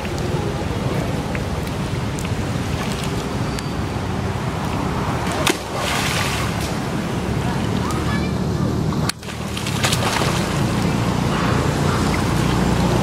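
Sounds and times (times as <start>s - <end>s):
water splashing: 0.0s - 8.2s, 9.0s - 13.0s.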